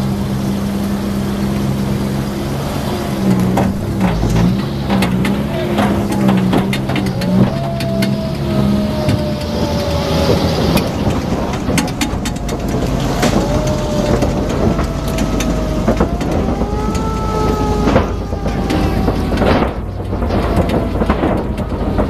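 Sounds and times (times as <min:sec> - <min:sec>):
drivetrain whine: 0:00.0 - 0:22.0
vehicle rumbling: 0:00.0 - 0:22.0
tyres clattering on wooden planks: 0:03.2 - 0:22.0.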